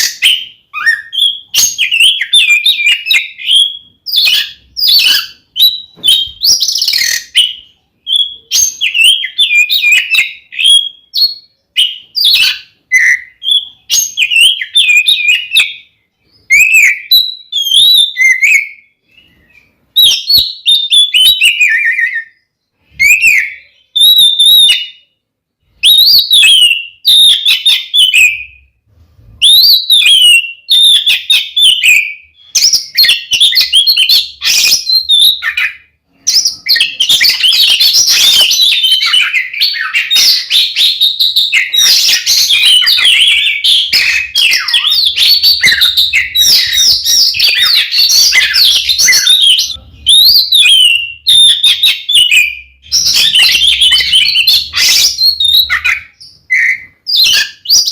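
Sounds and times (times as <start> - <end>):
songbird singing: 0.0 - 28.7, 29.4 - 57.9.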